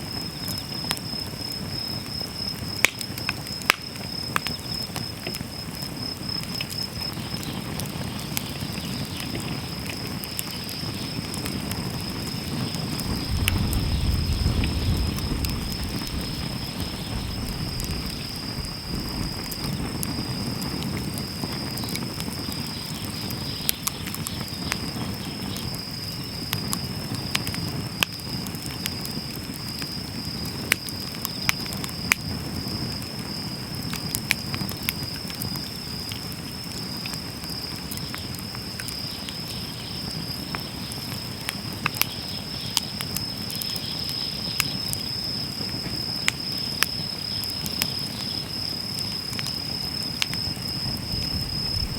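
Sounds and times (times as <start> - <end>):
insect trill: 0.0 - 51.9
wood fire crackling and popping: 0.0 - 51.9.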